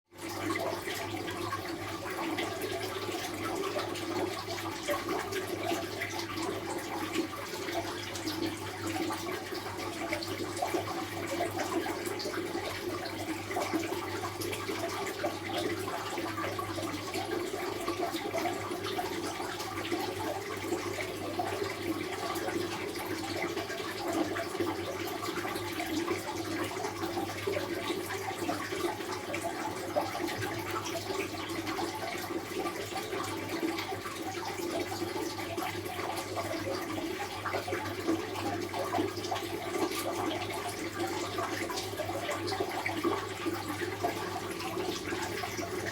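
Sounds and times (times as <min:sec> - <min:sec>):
running water: 0:00.1 - 0:45.9.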